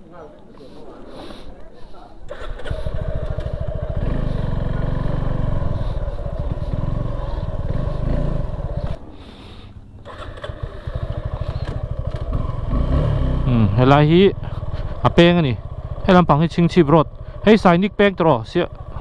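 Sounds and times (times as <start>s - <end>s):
motorcycle engine accelerating: 2.3s - 19.0s.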